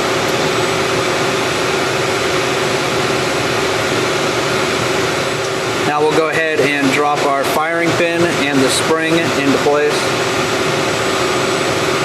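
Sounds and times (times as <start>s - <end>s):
machine rushing hum: 0.0s - 12.0s.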